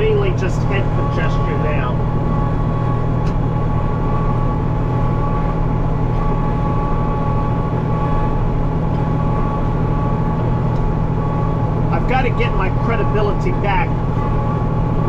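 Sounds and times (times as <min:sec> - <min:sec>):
steady whining tones: 0:00.0 - 0:15.0
tractor engine running under load: 0:00.0 - 0:15.0.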